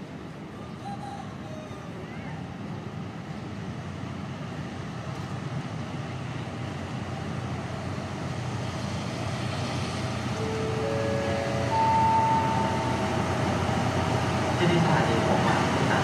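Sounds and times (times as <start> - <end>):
diesel train engine rumble: 0.0 - 16.0.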